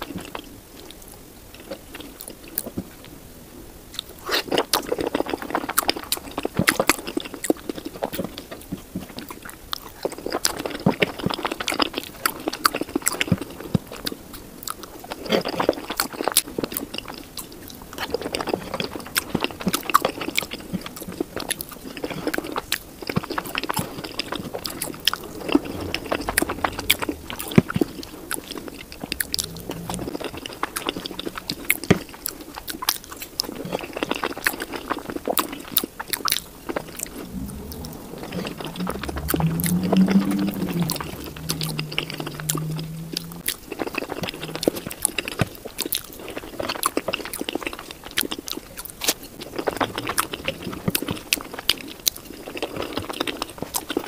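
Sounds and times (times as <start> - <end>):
wet chewing and biting: 3.9 - 54.0.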